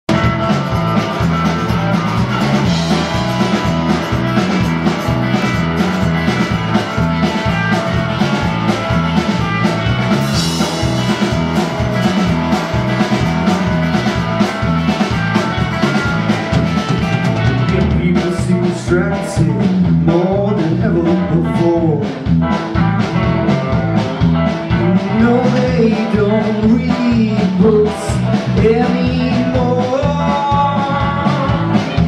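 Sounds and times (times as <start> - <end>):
bass guitar: 0.0 - 32.0
drum kit steady beat: 0.0 - 32.0
electric guitar: 0.0 - 32.0.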